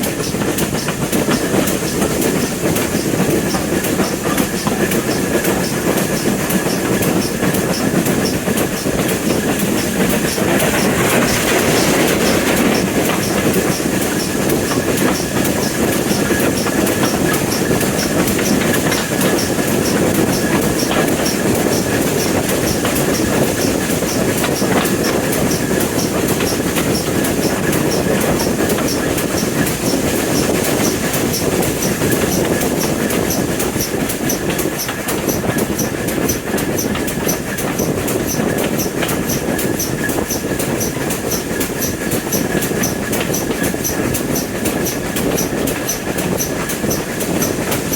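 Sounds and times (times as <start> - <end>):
train wheels clicking over rail joints: 0.0 - 47.9.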